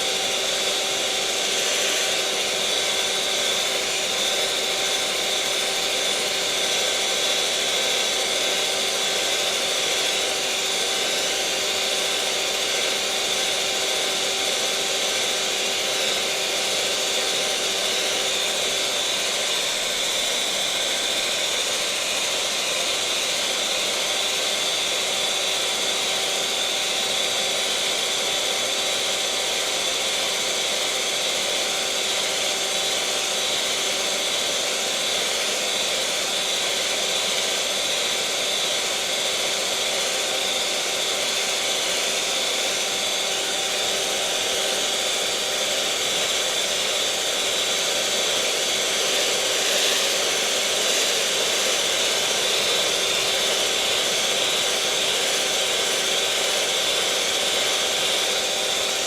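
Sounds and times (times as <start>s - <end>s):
electric mixer motor whirring: 0.0s - 59.0s.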